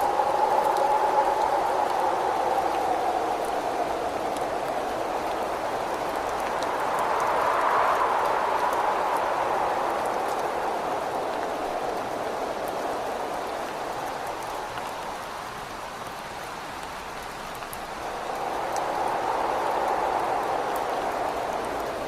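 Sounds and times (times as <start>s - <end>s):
gusting wind: 0.0s - 22.0s
rain hissing: 0.0s - 22.0s.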